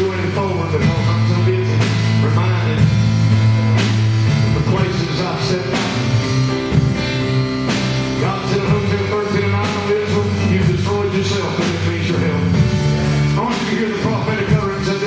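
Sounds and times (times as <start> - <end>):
bass guitar: 0.0 - 15.0
drum kit: 0.0 - 15.0
piano: 0.0 - 15.0.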